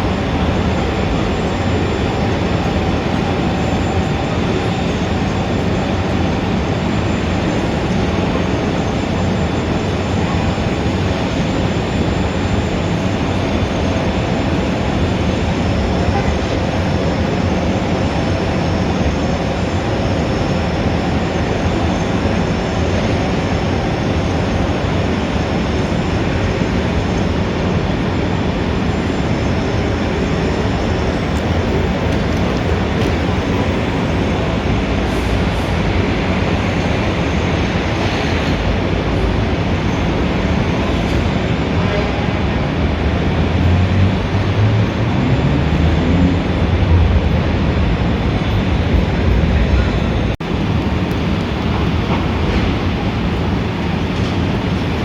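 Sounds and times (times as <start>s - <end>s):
city traffic rumble: 0.0s - 55.0s.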